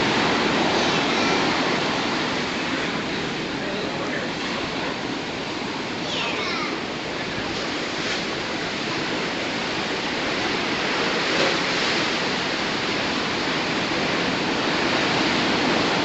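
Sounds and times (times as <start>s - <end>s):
rushing water: 0.0s - 16.0s
storm wind rushing: 0.0s - 16.0s.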